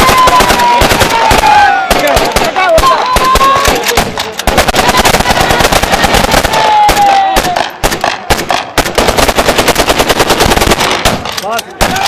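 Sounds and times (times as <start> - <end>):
automatic gunfire: 0.0 - 12.0.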